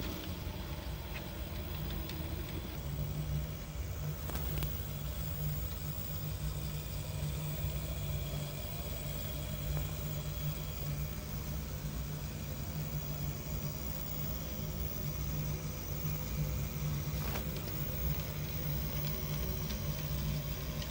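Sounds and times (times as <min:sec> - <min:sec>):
model locomotive motor hum: 0:00.0 - 0:20.9.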